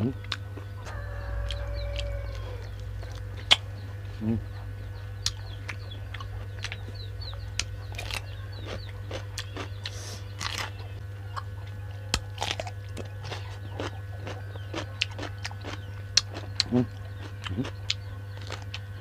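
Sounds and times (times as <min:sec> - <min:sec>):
person chewing crunchy food: 0:00.0 - 0:04.4, 0:05.2 - 0:19.0
low hum: 0:00.0 - 0:19.0.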